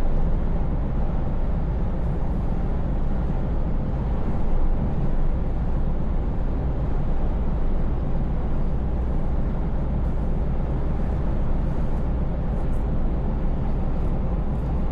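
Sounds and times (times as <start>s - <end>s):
road and tyre noise: 0.0s - 14.9s.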